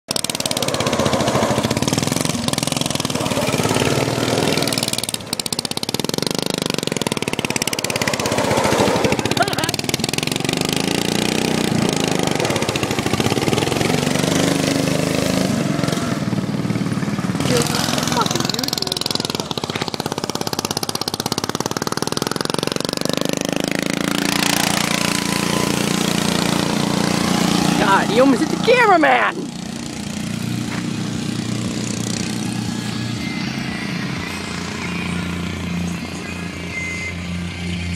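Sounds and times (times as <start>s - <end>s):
small lawnmower engine running: 0.1s - 37.9s.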